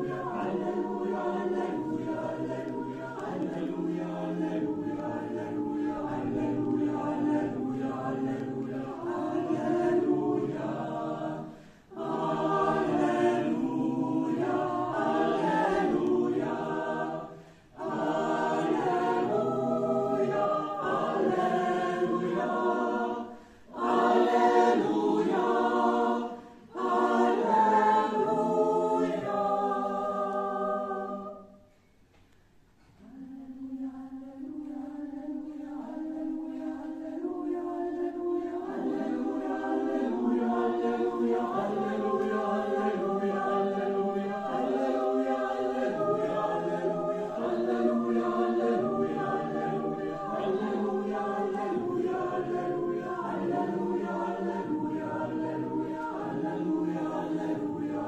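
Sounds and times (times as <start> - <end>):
mixed choir singing a cappella: 0.0 - 32.0, 32.9 - 58.0.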